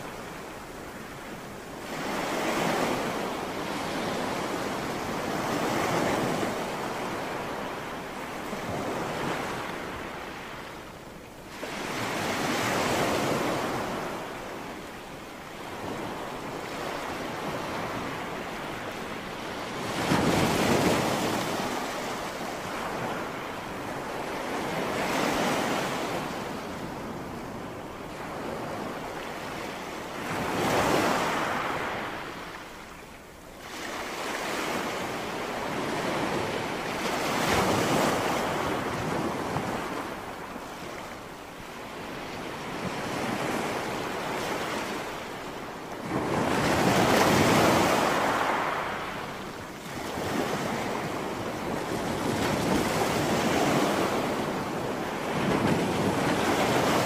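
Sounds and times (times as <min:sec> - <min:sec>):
sea waves breaking on beach: 0:00.0 - 0:10.9, 0:11.5 - 0:33.0, 0:33.6 - 0:57.0.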